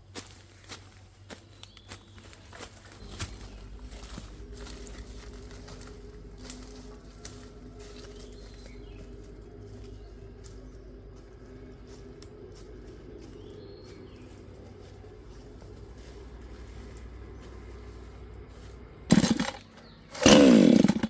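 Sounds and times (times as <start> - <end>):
birds calling: 0.0 - 21.0
steady low hum: 0.0 - 21.0.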